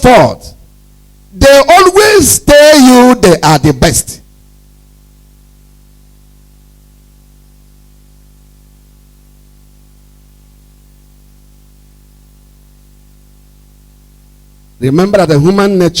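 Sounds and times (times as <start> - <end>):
constant hiss: 0.0 - 16.0
electrical hum: 0.0 - 16.0.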